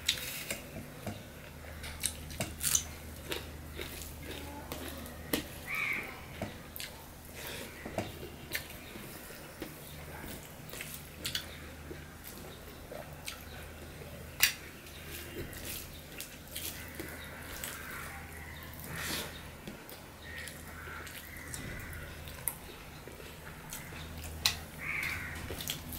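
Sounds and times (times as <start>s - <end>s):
wet chewing and mouth clicks: 1.4s - 5.7s, 8.0s - 25.9s.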